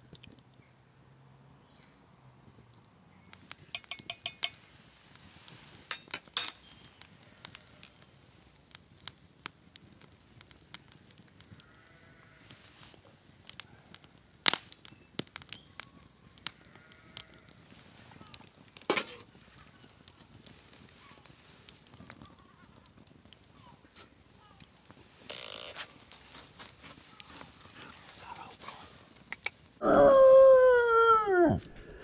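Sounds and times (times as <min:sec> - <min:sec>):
campfire crackling and popping: 0:00.0 - 0:29.8.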